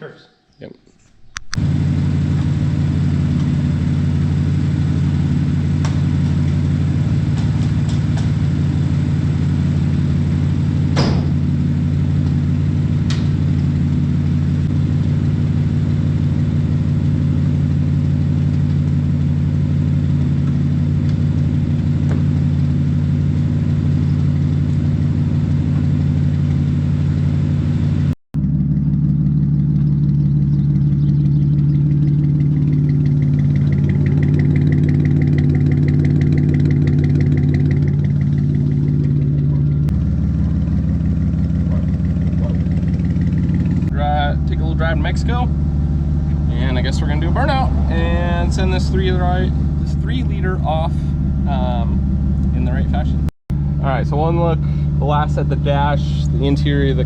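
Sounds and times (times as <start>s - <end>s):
car engine idling: 1.2s - 57.0s.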